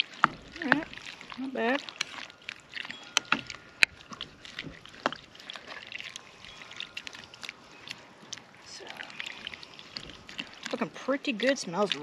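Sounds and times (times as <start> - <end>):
spoon stirring thick soup: 0.0 - 12.0.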